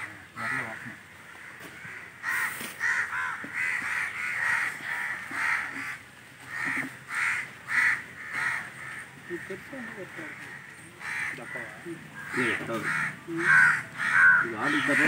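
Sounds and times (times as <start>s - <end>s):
crows cawing: 0.0s - 15.0s.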